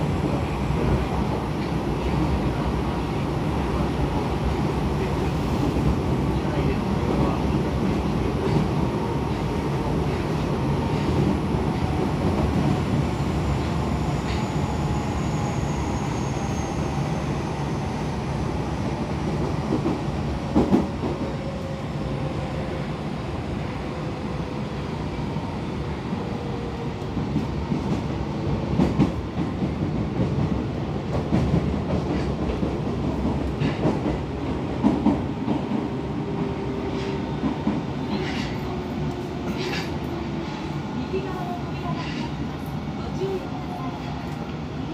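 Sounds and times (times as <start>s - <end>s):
subway wheels and motors rumbling: 0.0s - 44.9s.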